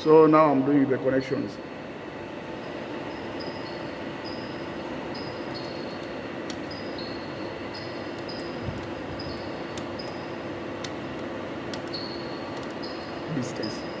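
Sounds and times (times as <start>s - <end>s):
steady low background hum: 0.0s - 14.0s.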